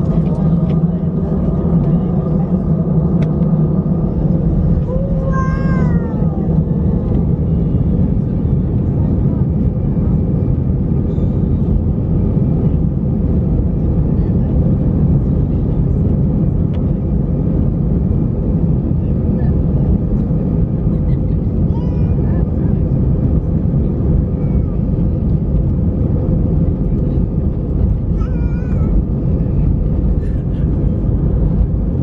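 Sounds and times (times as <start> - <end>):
airplane cabin low rumble: 0.0 - 32.0.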